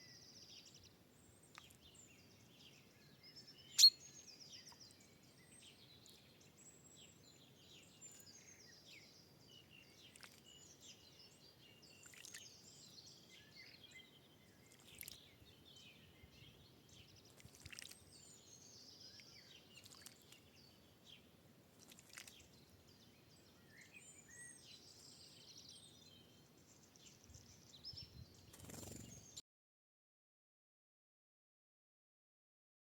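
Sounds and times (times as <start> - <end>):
songbirds chirping and singing: 0.0 - 21.3, 22.3 - 29.4.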